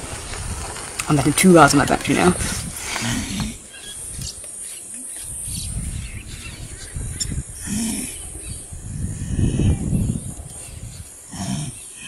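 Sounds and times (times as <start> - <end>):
lioness rumbling: 0.0 - 4.4, 5.2 - 12.0.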